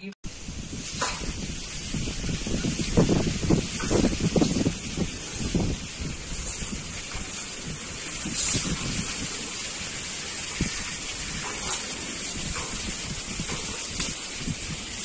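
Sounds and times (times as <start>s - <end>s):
broom sweeping concrete: 0.3s - 15.0s.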